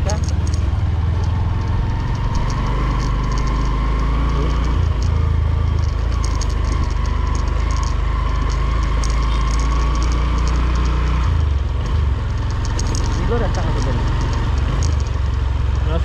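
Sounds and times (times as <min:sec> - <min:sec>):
light rattling clicks: 0:00.0 - 0:16.0
vehicle engine droning: 0:00.0 - 0:16.0.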